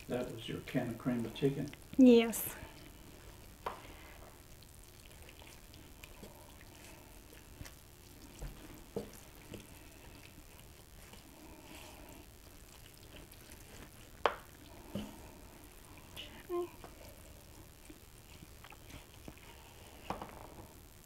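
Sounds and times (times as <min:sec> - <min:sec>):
spoon stirring wet mixture: 0:00.1 - 0:20.8.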